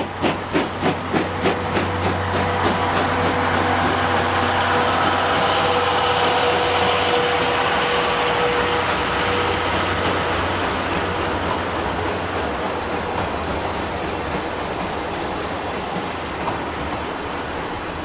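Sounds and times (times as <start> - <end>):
steam train rumbling along track: 0.0 - 18.0.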